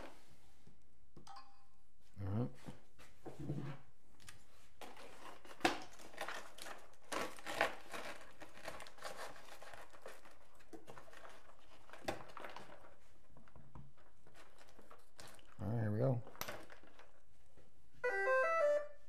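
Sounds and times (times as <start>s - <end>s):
rustling and crinkling: 2.6s - 18.0s.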